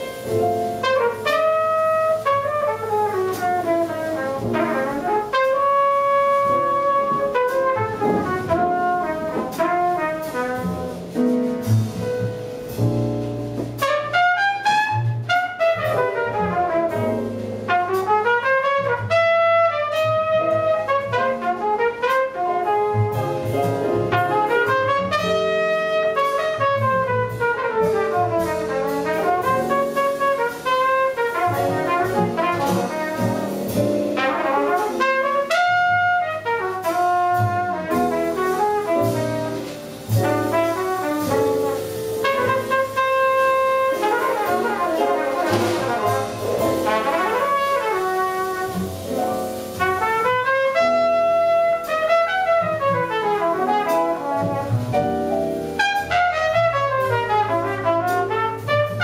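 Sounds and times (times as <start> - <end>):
trumpet solo: 0.0 - 11.2, 13.8 - 59.0
double bass: 0.0 - 59.0
drums: 0.0 - 59.0
piano: 0.0 - 59.0.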